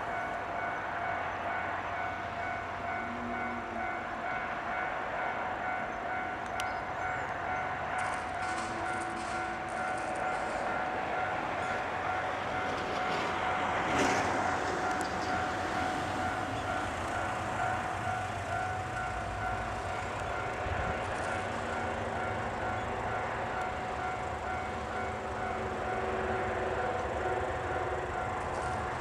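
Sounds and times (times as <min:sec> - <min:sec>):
crossing warning bell ringing: 0:00.0 - 0:29.0
train engine and wheels on rails: 0:00.0 - 0:29.0.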